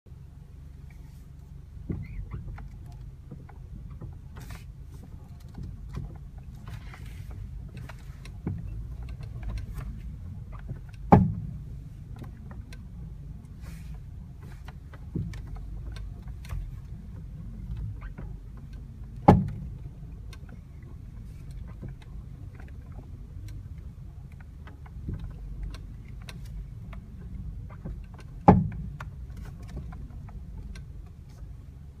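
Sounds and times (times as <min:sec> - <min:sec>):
car suspension clunks: 0:00.6 - 0:32.0.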